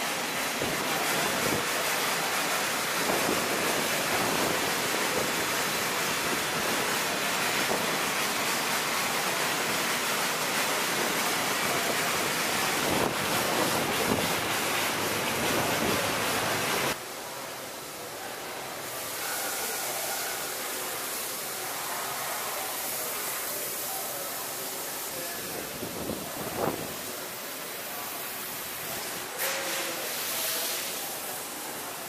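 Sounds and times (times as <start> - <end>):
water spraying from nozzles: 0.0 - 32.0.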